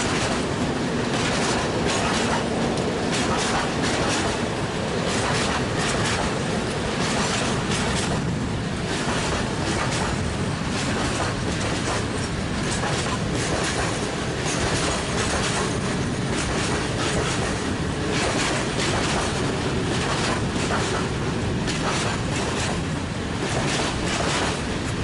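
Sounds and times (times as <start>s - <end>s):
train rumble: 0.0s - 25.0s
wheels clacking over rail joints: 0.0s - 25.0s.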